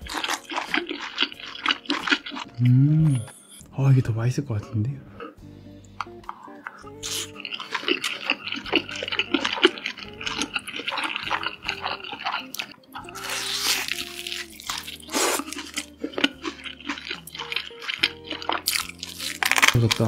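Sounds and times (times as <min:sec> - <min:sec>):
person chewing fried chicken: 0:00.0 - 0:03.1, 0:06.0 - 0:20.0
soft background music: 0:00.0 - 0:20.0.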